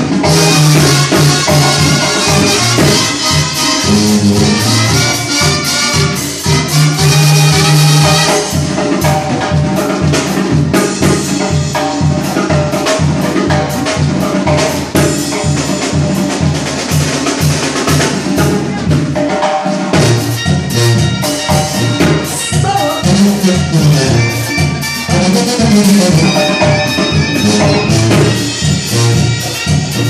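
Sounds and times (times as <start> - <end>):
brass band playing: 0.0 - 30.0
steady drum beat: 0.0 - 30.0.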